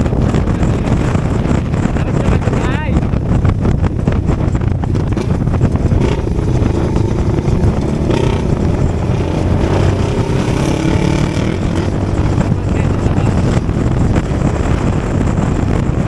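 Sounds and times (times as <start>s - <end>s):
motorcycle engine running: 0.0s - 16.0s
rushing wind noise: 0.0s - 16.0s.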